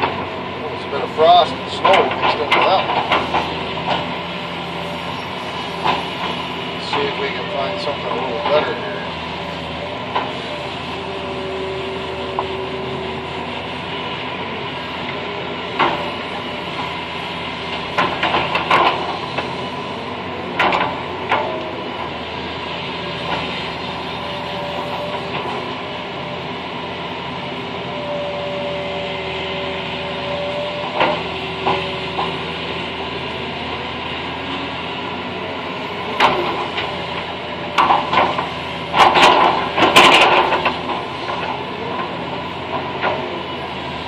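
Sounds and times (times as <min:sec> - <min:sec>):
diesel engine running: 0:00.0 - 0:44.0
hydraulic whine: 0:00.0 - 0:44.0.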